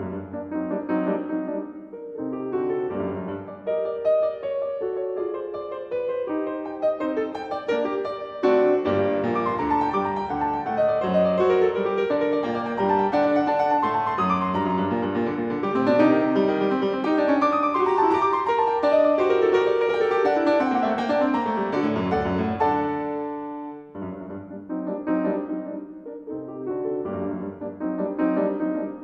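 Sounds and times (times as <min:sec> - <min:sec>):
solo piano music: 0:00.0 - 0:29.0.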